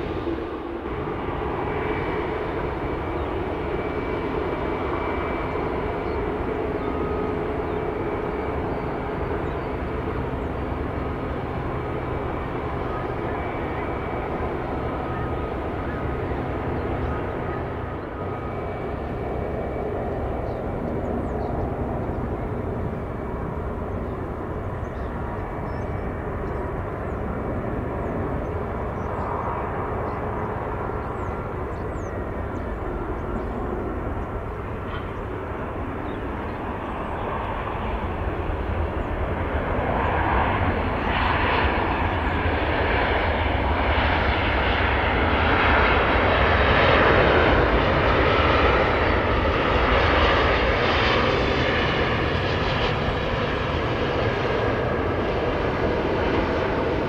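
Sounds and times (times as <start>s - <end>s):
jetliner engines rumbling: 0.0s - 57.0s.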